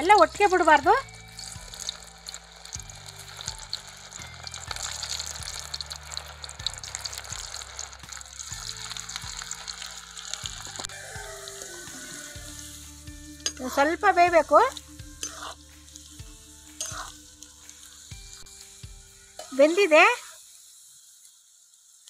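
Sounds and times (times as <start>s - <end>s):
deep-frying sizzle with crackles: 0.0s - 22.0s.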